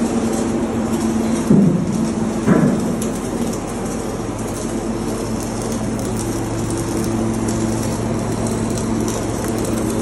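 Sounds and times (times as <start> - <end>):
welding arc crackling: 0.0 - 10.0.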